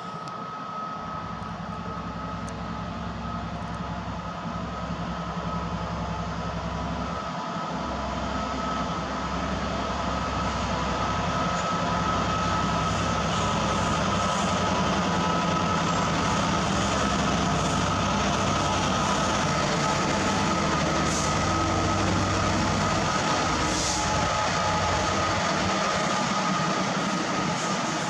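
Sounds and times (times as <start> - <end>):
diesel locomotive engine drone: 0.0 - 28.0
steady high whine: 0.0 - 28.0.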